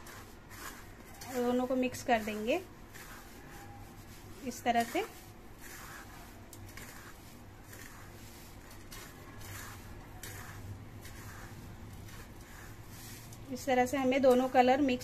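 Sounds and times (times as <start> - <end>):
hands rubbing breadcrumbs in plate: 0.0 - 15.0.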